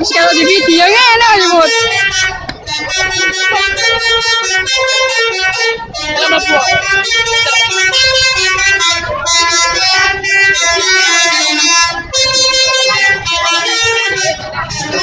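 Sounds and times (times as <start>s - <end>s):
multi-tone musical air horn: 0.0s - 15.0s.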